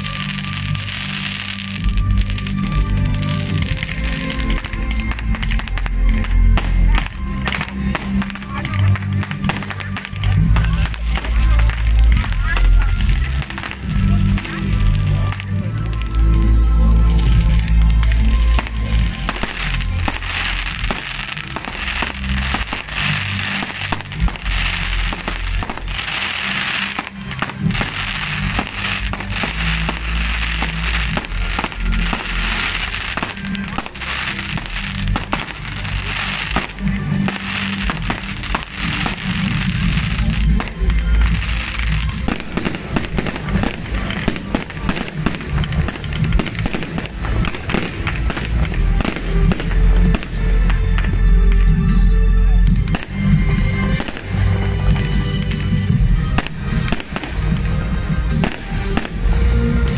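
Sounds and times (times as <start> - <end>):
fireworks popping and banging: 0.0 - 52.0, 52.6 - 59.9
fireworks crackling: 0.0 - 59.9
music with low bass: 0.0 - 59.9.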